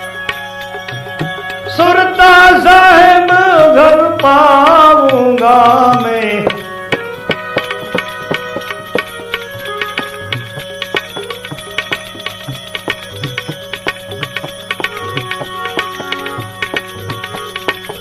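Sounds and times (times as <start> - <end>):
held melody notes: 0.0 - 18.0
tabla rhythm: 0.0 - 18.0.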